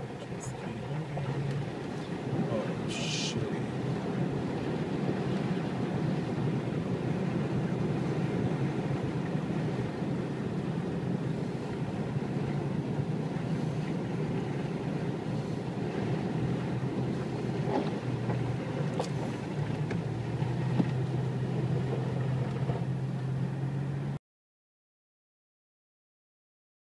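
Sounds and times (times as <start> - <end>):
car engine hum: 0.0 - 24.2
floodwater splashing against car: 0.0 - 24.2.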